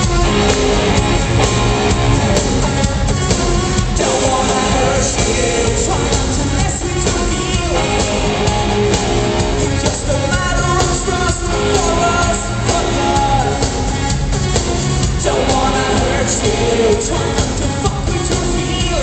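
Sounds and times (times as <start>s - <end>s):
live rock band playing: 0.0s - 19.0s
woman singing lead: 2.0s - 14.0s, 15.1s - 19.0s.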